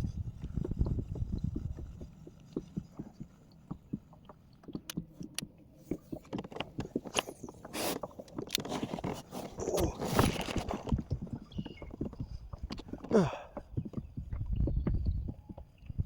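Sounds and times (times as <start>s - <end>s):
knocks and thumps in a kayak: 0.4s - 16.0s.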